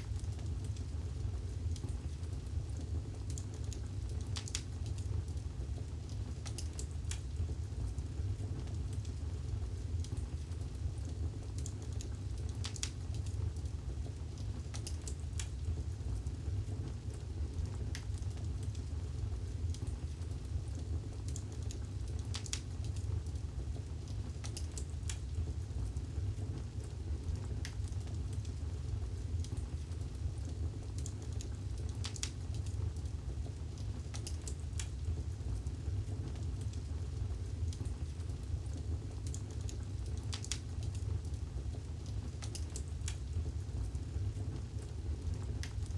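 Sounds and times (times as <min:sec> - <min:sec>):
fire crackles and pops: 0:00.0 - 0:45.9
low rumble of flames: 0:00.0 - 0:45.9.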